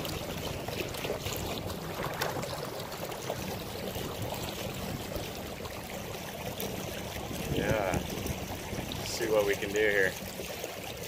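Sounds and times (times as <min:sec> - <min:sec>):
water rushing along boat hull: 0:00.0 - 0:11.0.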